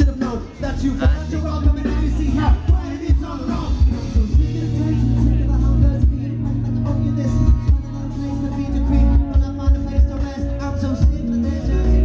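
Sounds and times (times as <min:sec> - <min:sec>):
heavy bass line: 0:00.0 - 0:12.0
person singing: 0:00.0 - 0:12.0.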